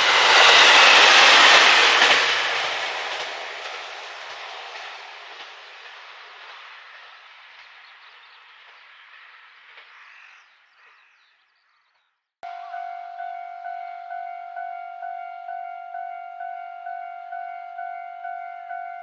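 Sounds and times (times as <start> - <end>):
railcar wheels on rail: 0.0 - 11.2, 12.4 - 19.0.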